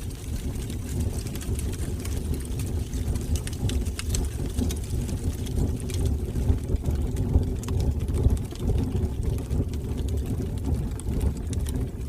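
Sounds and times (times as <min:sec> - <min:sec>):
faint fire crackles: 0:00.0 - 0:12.0
fire flames rumbling: 0:00.0 - 0:12.0.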